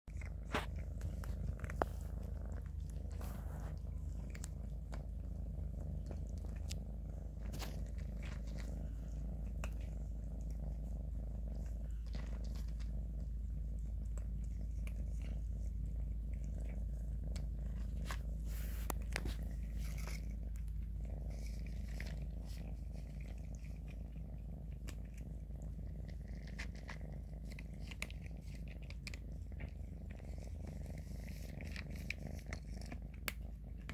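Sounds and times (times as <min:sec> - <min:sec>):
kitten purring: 0:00.0 - 0:33.9
dry kibble crunching: 0:00.1 - 0:33.9.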